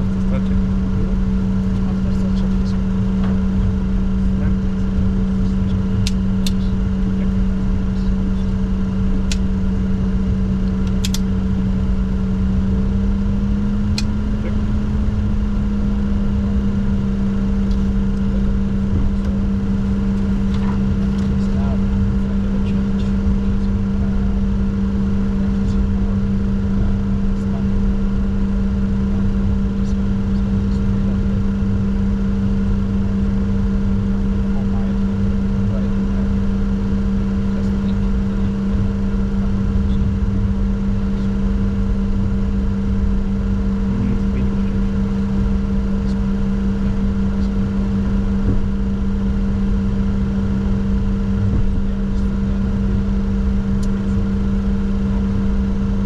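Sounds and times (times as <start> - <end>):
low rumble: 0.0 - 56.0
two-tone electrical hum: 0.0 - 56.0.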